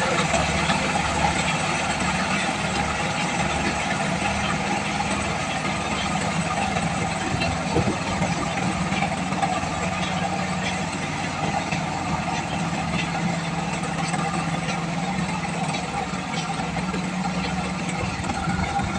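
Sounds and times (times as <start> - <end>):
combine harvester engine humming: 0.0 - 18.9.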